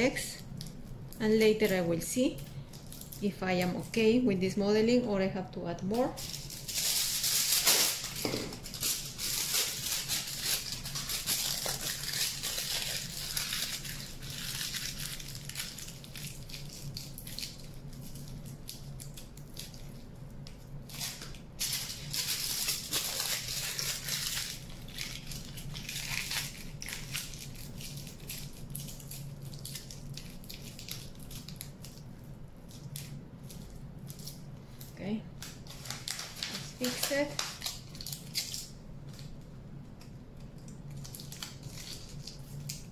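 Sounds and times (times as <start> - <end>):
aluminium foil crinkling: 0.0 - 5.1, 5.9 - 42.9.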